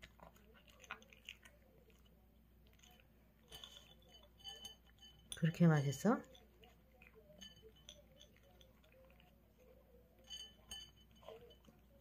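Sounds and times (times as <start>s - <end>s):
dog eating kibble from bowl: 0.0s - 12.0s.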